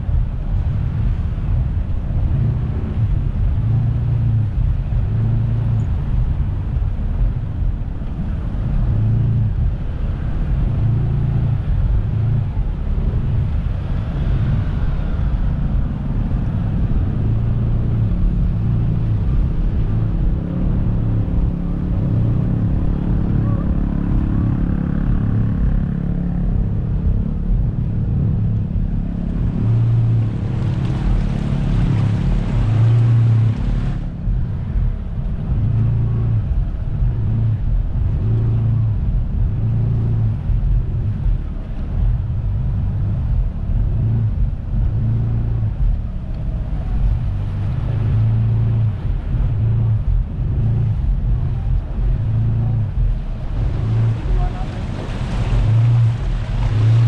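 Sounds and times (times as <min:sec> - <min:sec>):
engine running: 0:00.0 - 0:57.0
wind buffeting microphone: 0:00.0 - 0:57.0.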